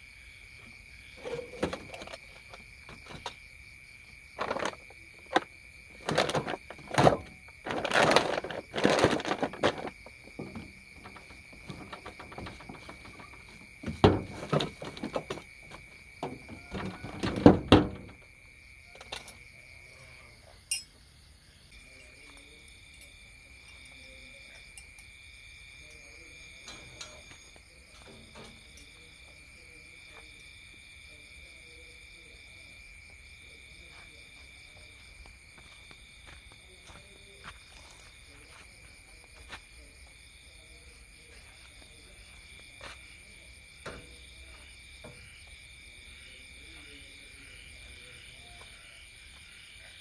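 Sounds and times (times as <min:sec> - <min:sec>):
crickets trilling: 0:00.0 - 0:50.0
pulsing insect trill: 0:00.0 - 0:50.0.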